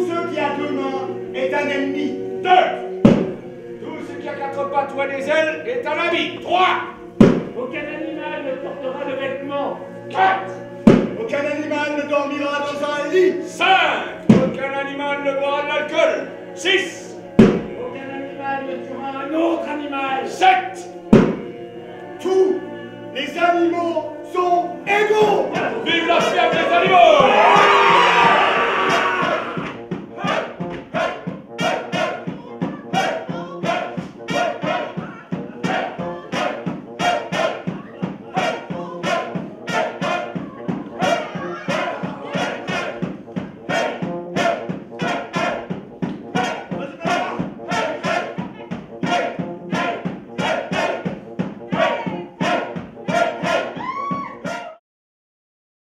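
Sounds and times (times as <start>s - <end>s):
lively music with steady beat: 0.0s - 54.8s.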